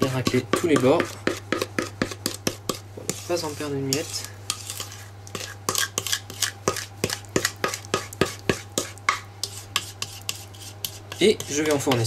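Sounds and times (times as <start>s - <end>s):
steady low hum: 0.0s - 12.0s
utensil scraping a mixing bowl: 0.0s - 12.0s.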